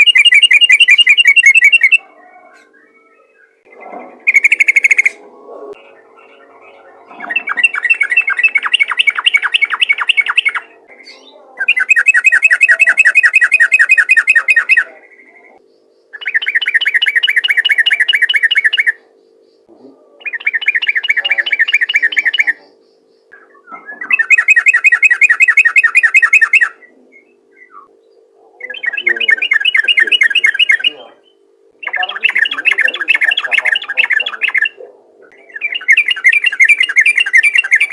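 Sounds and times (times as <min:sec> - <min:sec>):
bird singing rattling phrases: 0:00.0 - 0:37.9.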